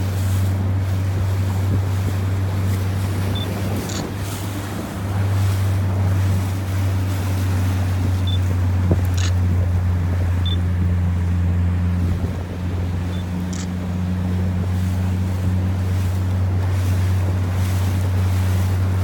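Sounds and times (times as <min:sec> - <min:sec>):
motorboat engine humming: 0:00.0 - 0:19.0
water noise: 0:00.0 - 0:19.0
wind: 0:00.0 - 0:19.0.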